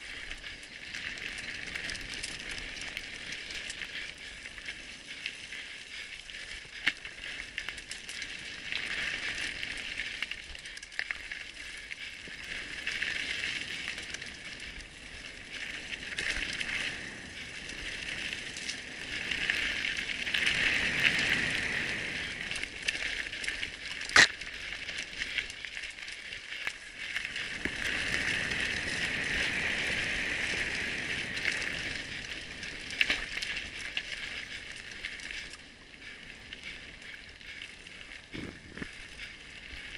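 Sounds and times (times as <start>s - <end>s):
bike chain and frame rattling: 0.0s - 39.9s
bike tyres on dirt: 0.0s - 39.9s.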